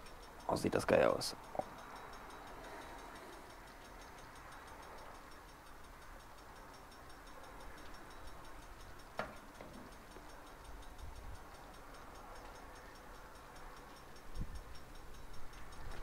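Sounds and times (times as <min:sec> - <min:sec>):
faint fast ticking: 0:00.0 - 0:16.0
low steady background: 0:00.0 - 0:16.0.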